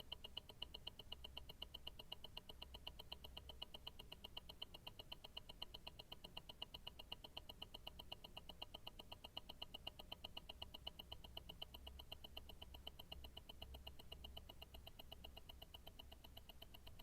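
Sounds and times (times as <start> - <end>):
watch ticking: 0.0 - 17.0.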